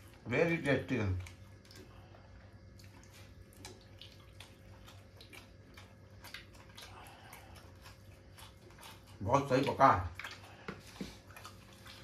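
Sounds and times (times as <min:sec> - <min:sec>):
low steady hum: 0:00.0 - 0:12.0
wet chewing and mouth clicks: 0:00.0 - 0:12.0.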